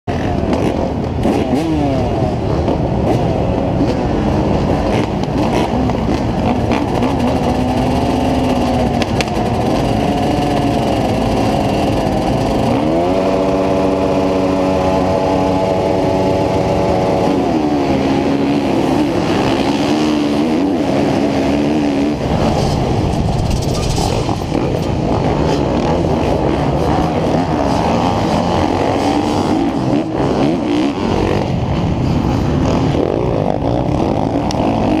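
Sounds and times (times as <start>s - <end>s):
bikes at full throttle: 0.0s - 35.0s
motocross bikes revving: 0.1s - 35.0s.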